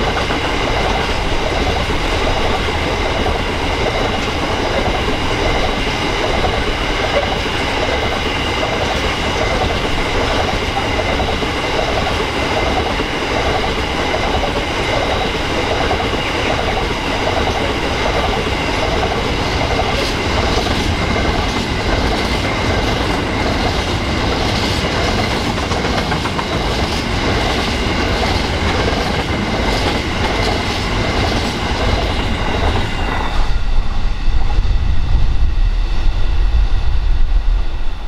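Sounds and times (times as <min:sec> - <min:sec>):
freight train wheels clicking: 0:00.0 - 0:33.5
wind buffeting microphone: 0:00.0 - 0:38.0.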